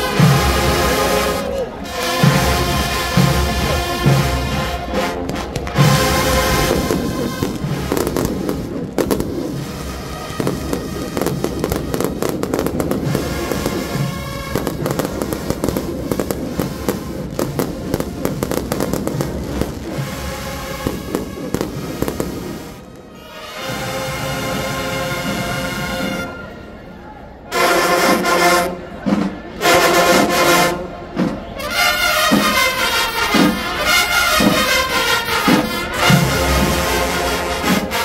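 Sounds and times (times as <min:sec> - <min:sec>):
firecrackers banging: 0:00.0 - 0:26.3, 0:27.5 - 0:38.0
band playing: 0:00.0 - 0:38.0.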